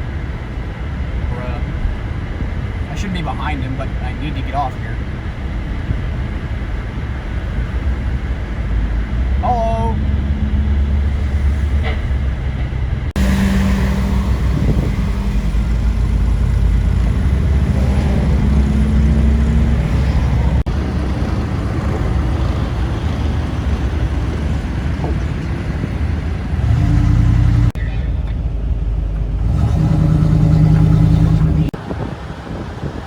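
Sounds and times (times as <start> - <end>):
car engine drone and road noise: 0.0 - 33.0.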